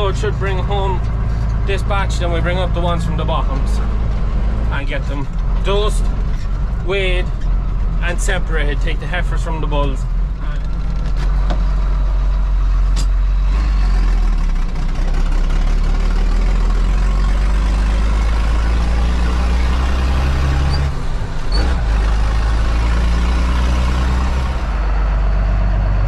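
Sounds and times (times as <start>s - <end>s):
road noise: 0.0s - 26.0s
tractor diesel engine running: 0.0s - 26.0s.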